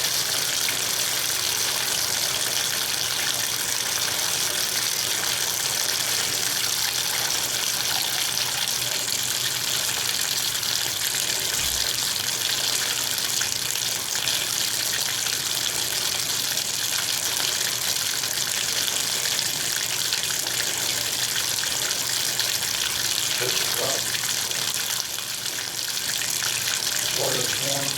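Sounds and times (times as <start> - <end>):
water running from a tap: 0.0 - 27.9.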